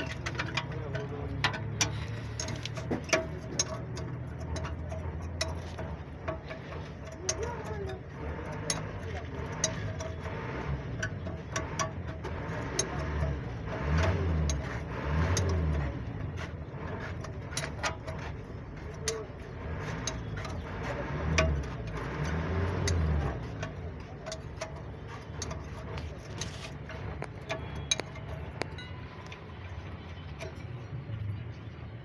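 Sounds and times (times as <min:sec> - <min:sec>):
metallic clicks and taps of tools: 0:00.0 - 0:30.8.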